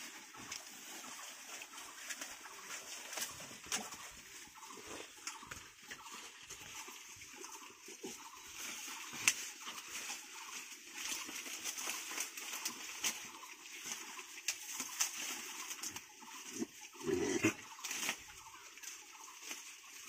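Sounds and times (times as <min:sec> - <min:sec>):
leaves and stalks rustling: 0:00.0 - 0:20.0
piglets crunching and chewing: 0:00.0 - 0:20.0.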